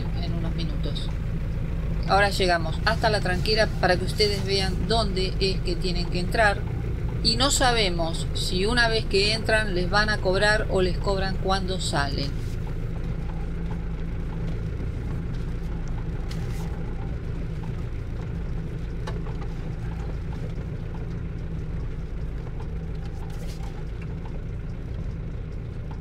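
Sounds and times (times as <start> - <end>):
car road rumble from inside: 0.0 - 26.0.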